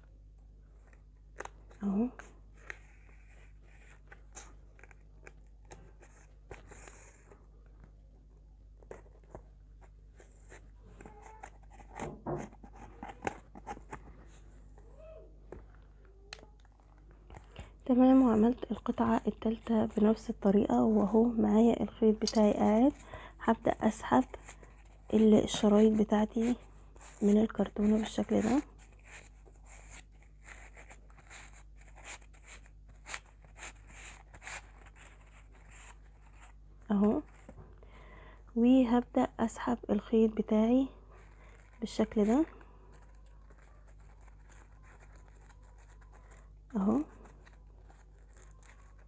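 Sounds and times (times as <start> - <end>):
ribbon and cardboard rustling: 0.7 - 8.0, 8.8 - 15.8, 16.5 - 37.7, 40.6 - 49.0.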